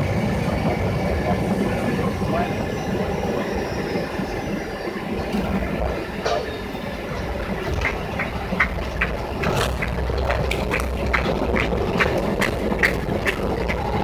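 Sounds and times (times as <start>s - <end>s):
airliner rumbling on runway: 0.0s - 14.0s.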